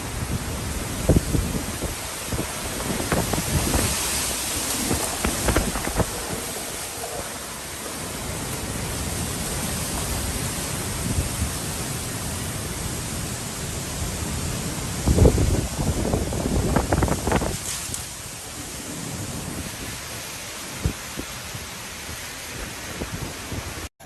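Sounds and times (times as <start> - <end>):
wind buffeting microphone: 0.0 - 23.9
hurricane wind and rain: 0.0 - 24.0.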